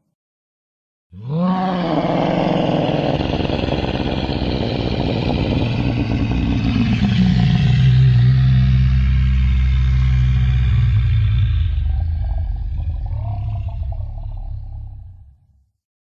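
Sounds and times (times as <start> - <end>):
dinosaur roar: 1.1 - 15.4.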